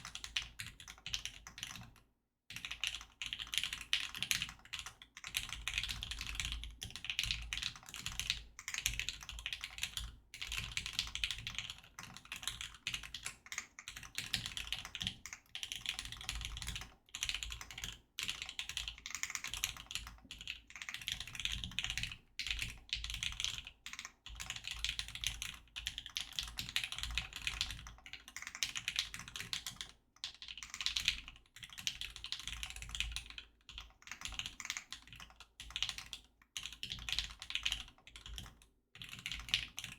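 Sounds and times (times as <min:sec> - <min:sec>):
mechanical keyboard typing: 0:00.0 - 0:01.9, 0:02.5 - 0:39.9.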